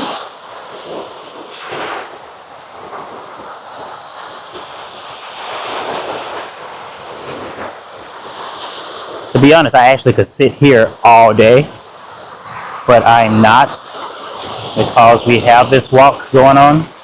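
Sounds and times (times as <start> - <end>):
ocean surf breaking on sand: 0.0 - 17.0
wind noise on microphone: 0.0 - 17.0.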